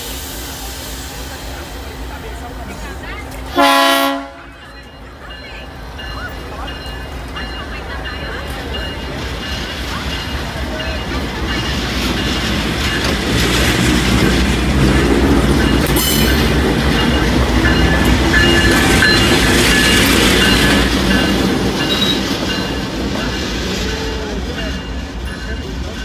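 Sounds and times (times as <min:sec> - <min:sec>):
diesel locomotive engine rumble: 0:00.0 - 0:26.0
train wheels clicking over rail joints: 0:04.6 - 0:26.0.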